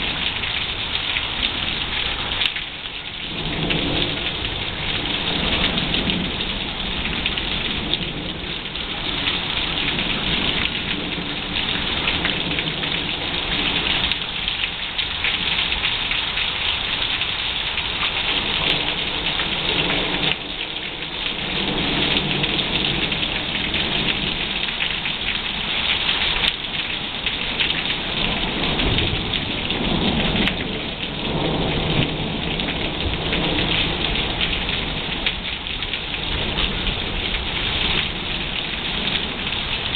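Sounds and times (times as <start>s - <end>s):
heavy rain: 0.0s - 39.9s
thunder rumbling: 3.2s - 14.4s, 17.9s - 39.9s.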